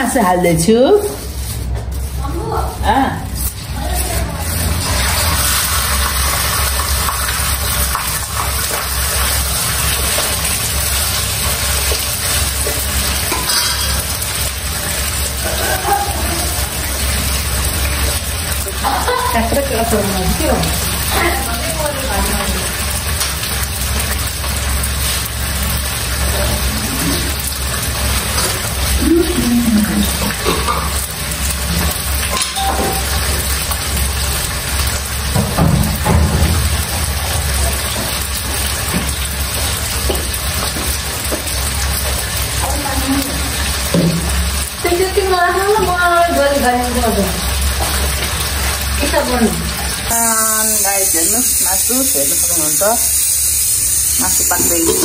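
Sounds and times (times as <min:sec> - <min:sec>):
meat sizzling in a pan: 0:00.1 - 0:55.0.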